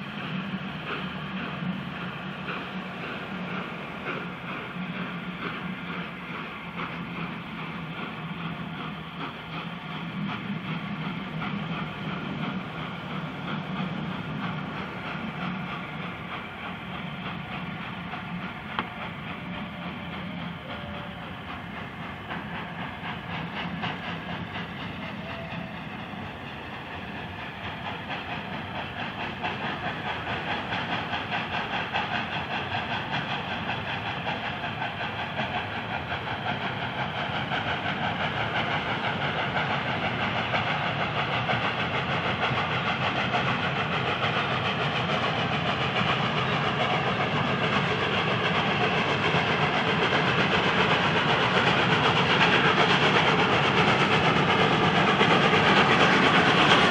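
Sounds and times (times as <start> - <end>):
steam train running: 0.0 - 56.9.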